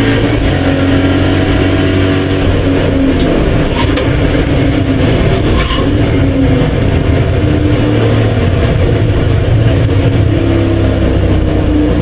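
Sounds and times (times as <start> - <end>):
car engine running loud: 0.0 - 12.0.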